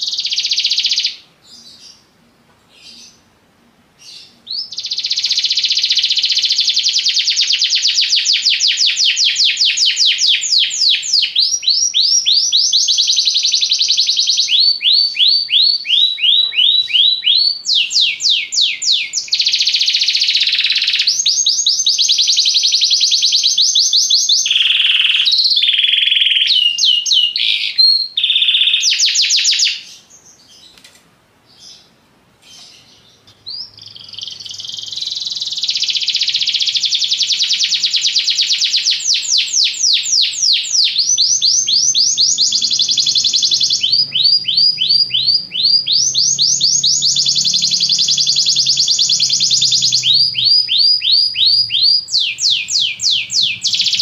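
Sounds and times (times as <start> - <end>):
canary singing trills: 0.0 - 2.1, 4.0 - 30.8, 31.5 - 54.0.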